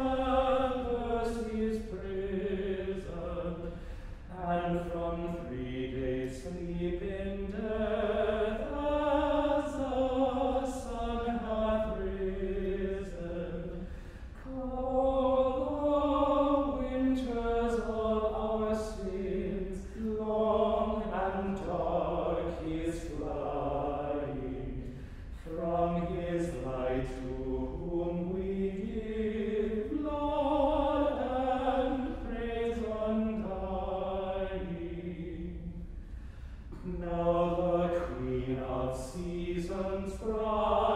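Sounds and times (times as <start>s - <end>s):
men's choir chanting unaccompanied: 0.0s - 3.7s, 4.3s - 13.8s, 14.5s - 35.6s, 36.8s - 40.9s.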